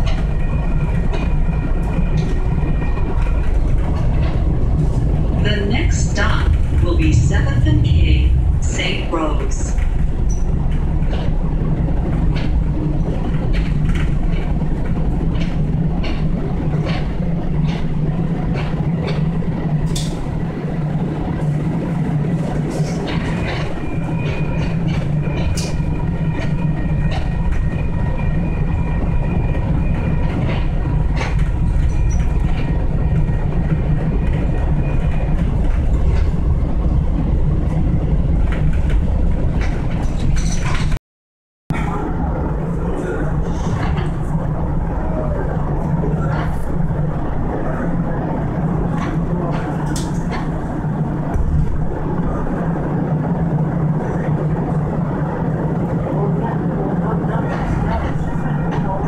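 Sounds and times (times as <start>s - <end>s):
train rumble and hum: 0.0s - 41.0s, 41.7s - 59.0s.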